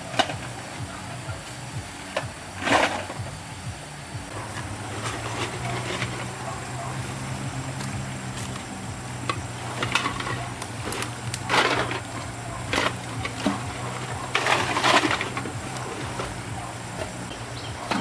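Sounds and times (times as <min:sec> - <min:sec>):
crunching and scraping: 0:00.0 - 0:03.5, 0:04.3 - 0:18.0
steady low hum: 0:00.0 - 0:18.0.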